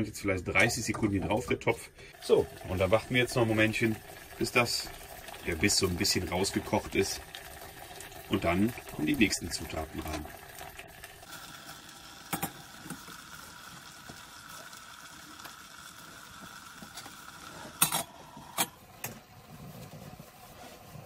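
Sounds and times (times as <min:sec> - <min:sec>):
pot boiling with hiss: 0:00.0 - 0:21.0.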